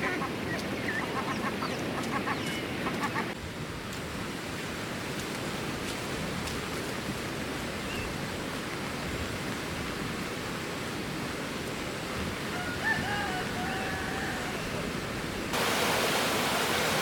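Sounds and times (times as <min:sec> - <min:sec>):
steady hiss of water: 0:03.3 - 0:17.0.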